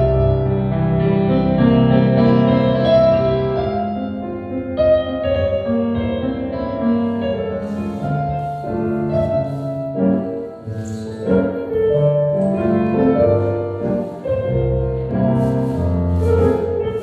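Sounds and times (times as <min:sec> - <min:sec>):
slow classical piano music: 0:00.0 - 0:17.0.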